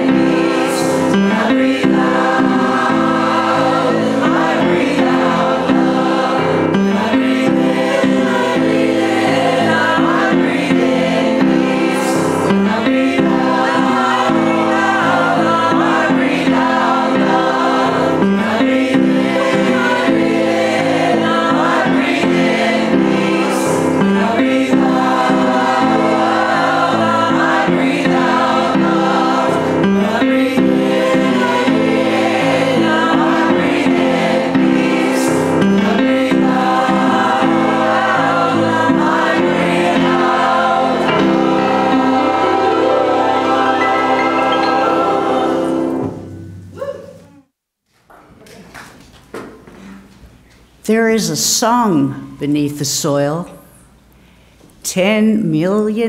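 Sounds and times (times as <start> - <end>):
choir singing in harmony: 0.0 - 46.8.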